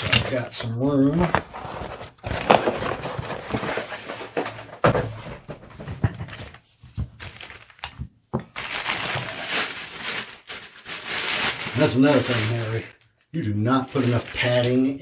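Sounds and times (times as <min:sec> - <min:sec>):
packing materials crinkling: 0:00.0 - 0:04.7, 0:06.3 - 0:15.0.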